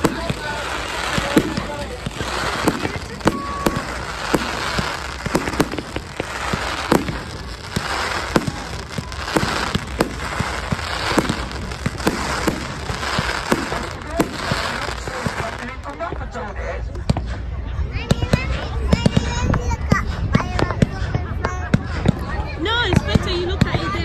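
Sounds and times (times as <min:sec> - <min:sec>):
fireworks bangs and pops: 0:00.0 - 0:24.0
fireworks hissing and crackling: 0:00.0 - 0:24.0.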